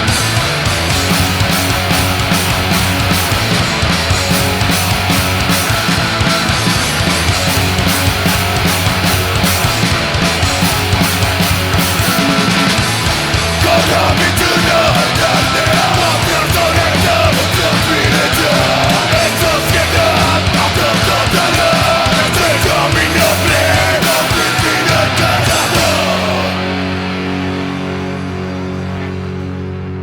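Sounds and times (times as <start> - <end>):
punk rock band playing: 0.0 - 30.0.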